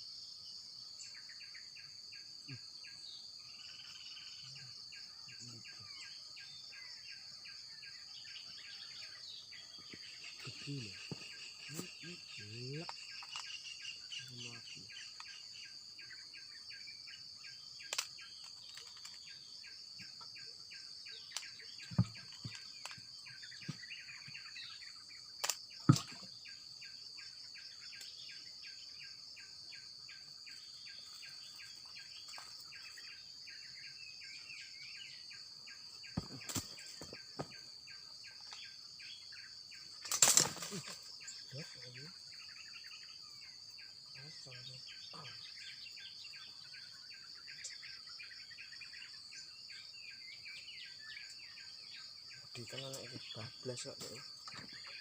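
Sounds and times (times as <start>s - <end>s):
insects droning: 0.0s - 55.0s
pulsing insect chirps: 0.0s - 55.0s.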